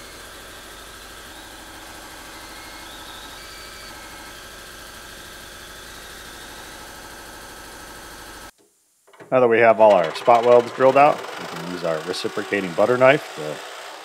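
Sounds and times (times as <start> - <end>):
cordless drill drilling steel: 0.0 - 8.5, 9.6 - 14.0.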